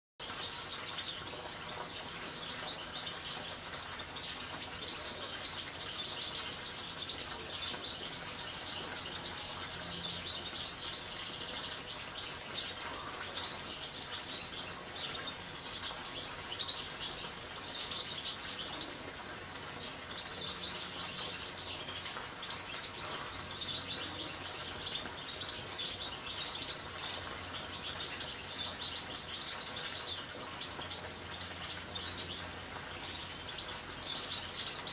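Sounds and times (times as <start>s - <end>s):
goldfinches chirping chorus: 0.2s - 34.9s.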